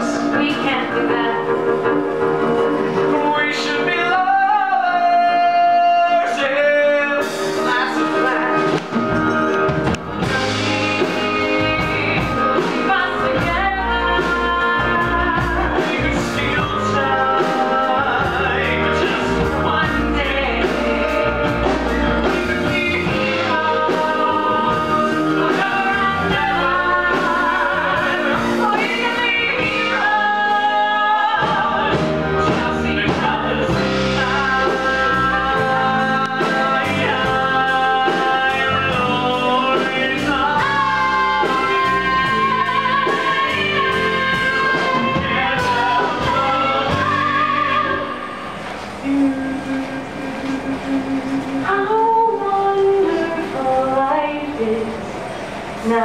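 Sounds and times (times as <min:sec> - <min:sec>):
man and woman singing duet: 0:00.0 - 0:55.2
instrumental accompaniment: 0:00.0 - 0:56.0.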